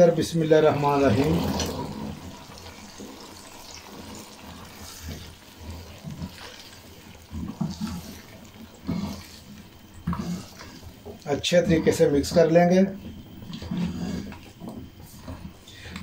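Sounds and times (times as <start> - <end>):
pot of food frying hiss: 0.0 - 13.4.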